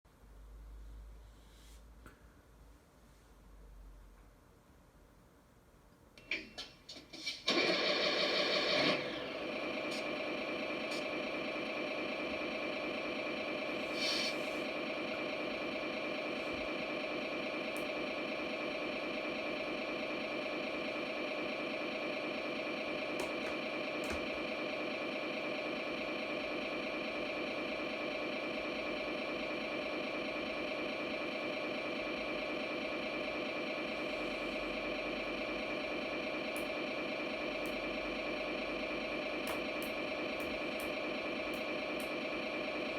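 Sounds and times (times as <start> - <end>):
simulated diesel engine idling: 7.5 - 42.9.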